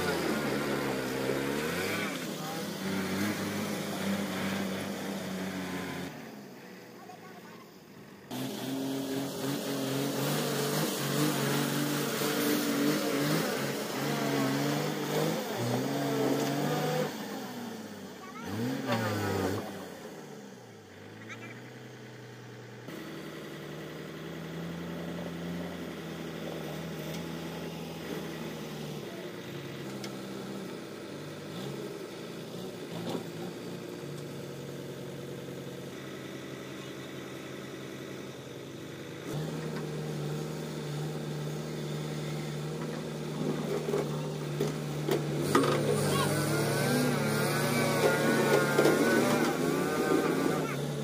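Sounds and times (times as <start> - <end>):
diesel engine idling: 0.0 - 10.1, 17.2 - 51.0.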